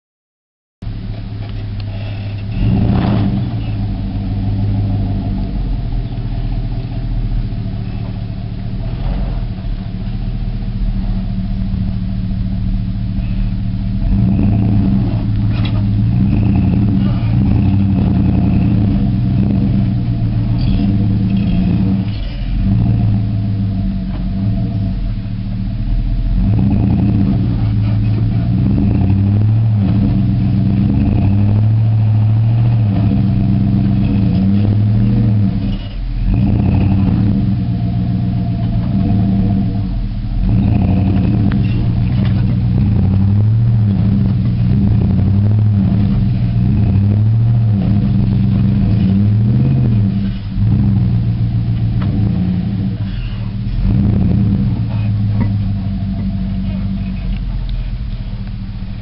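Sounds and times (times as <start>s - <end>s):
truck engine revving: 0.8s - 59.0s.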